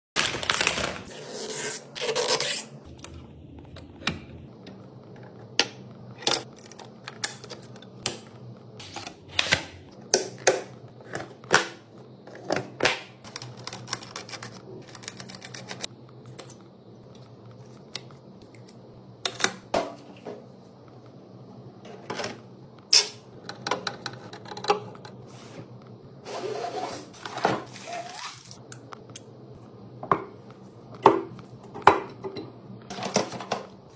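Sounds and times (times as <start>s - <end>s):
steady low hum: 1.1s - 33.9s.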